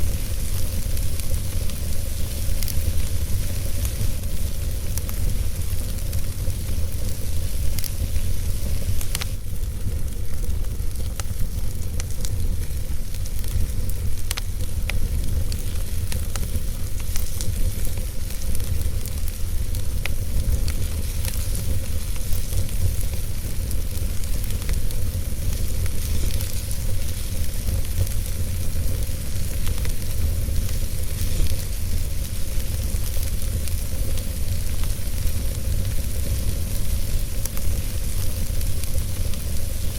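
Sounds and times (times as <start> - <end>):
fire crackles and pops: 0.0 - 39.9
wood fire rumbling and hissing: 0.0 - 39.9.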